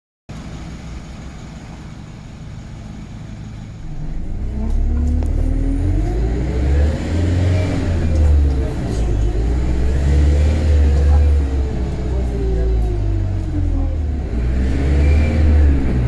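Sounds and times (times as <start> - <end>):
bus engine idling: 0.3 - 16.0
bus engine whine under load: 0.3 - 16.0.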